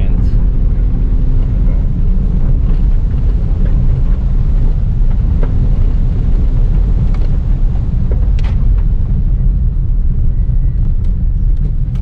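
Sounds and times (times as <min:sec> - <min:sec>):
rally car engine and tyre rumble: 0:00.0 - 0:12.0.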